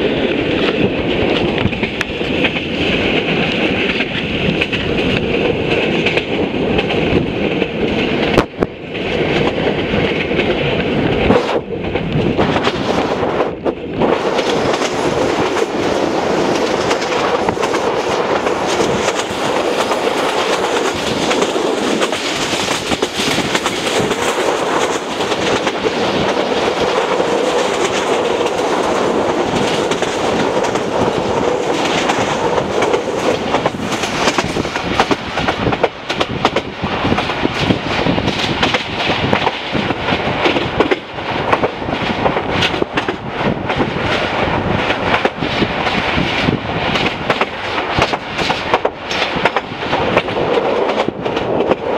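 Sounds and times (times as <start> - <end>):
train wheels rumbling on rails: 0.0 - 51.9
wheels clicking over rail joints: 0.0 - 51.9.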